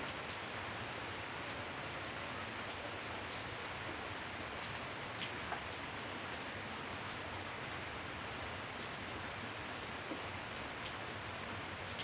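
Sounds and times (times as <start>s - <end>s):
steady rain on pavement: 0.0s - 12.0s.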